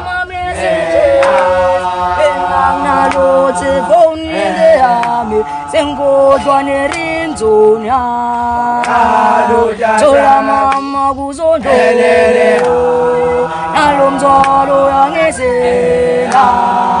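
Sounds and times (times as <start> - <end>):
group of voices chanting: 0.0 - 17.0.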